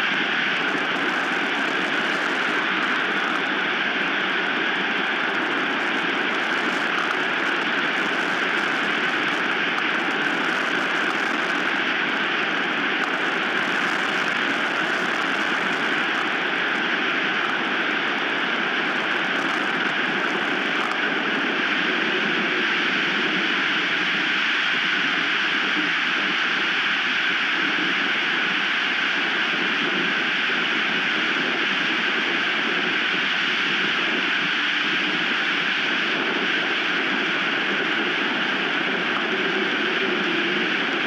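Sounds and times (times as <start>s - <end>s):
strong wind on microphone: 0.0s - 41.0s.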